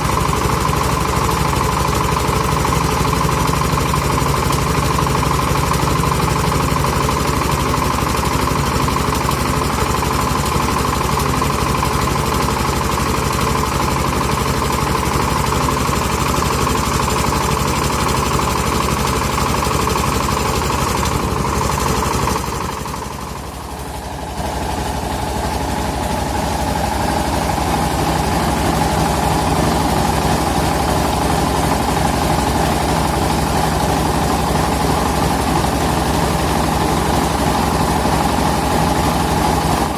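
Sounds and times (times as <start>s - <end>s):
rice milling machine drone: 0.0s - 39.9s.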